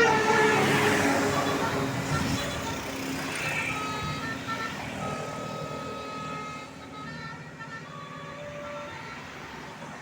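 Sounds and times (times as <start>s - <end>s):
multi-tone bus horn: 0.0s - 9.8s
bus engine and road noise: 0.0s - 10.0s.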